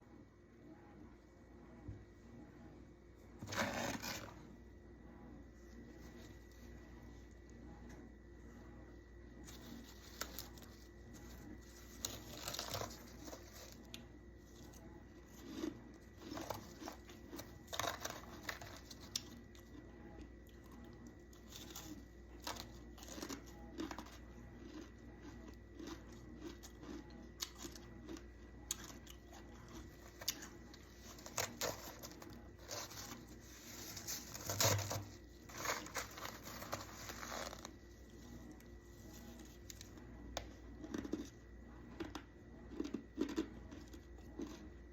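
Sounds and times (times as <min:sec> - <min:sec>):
faint hum: 0:00.0 - 0:44.9.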